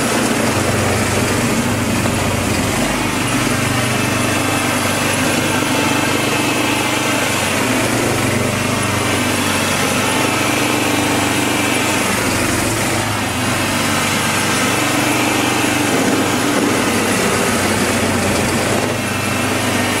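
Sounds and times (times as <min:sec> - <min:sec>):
small petrol engine running: 0:00.0 - 0:20.0
snow blower throwing snow: 0:00.0 - 0:20.0.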